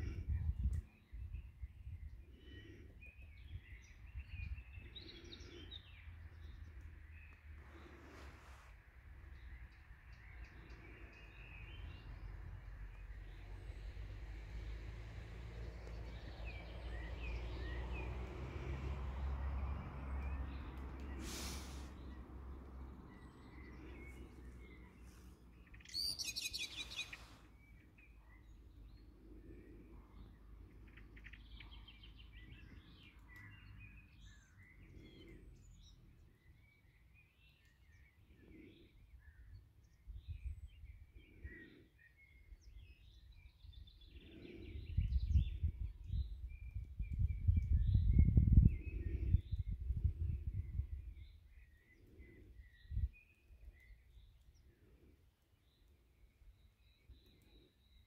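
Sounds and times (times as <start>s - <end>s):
songbirds chirping and singing: 0.0s - 8.6s, 9.2s - 14.8s, 15.4s - 58.0s.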